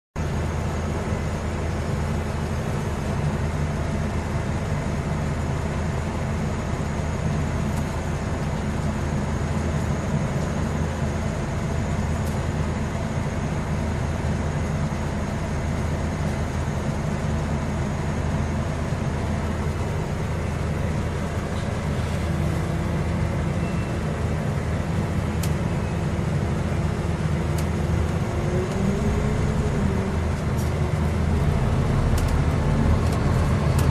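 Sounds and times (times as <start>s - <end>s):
bus diesel engine running: 0.2s - 33.9s
road noise: 0.2s - 33.9s.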